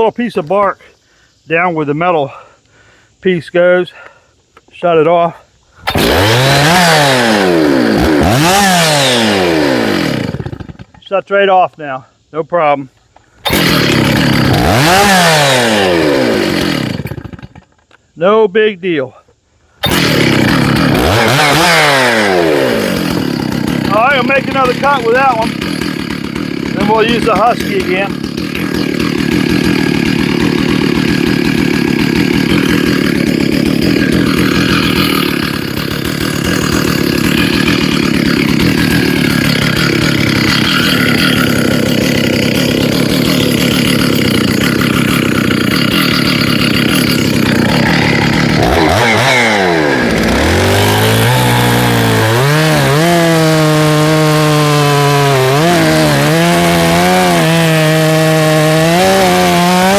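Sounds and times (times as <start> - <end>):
chainsaw cutting wood: 5.8 - 11.1, 13.4 - 18.0, 19.8 - 59.9.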